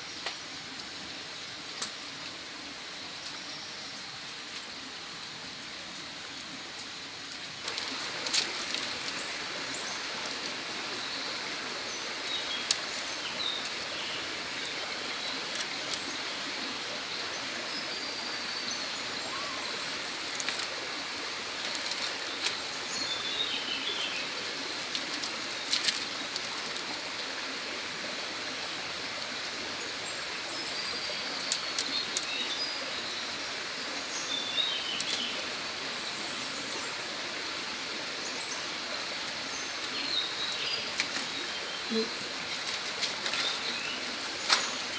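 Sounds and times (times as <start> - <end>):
small birds chirping: 6.3 - 27.5, 29.1 - 44.9.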